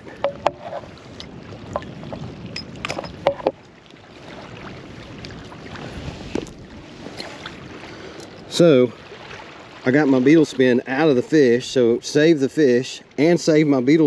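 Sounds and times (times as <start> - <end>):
small waves lapping: 0.0 - 14.0.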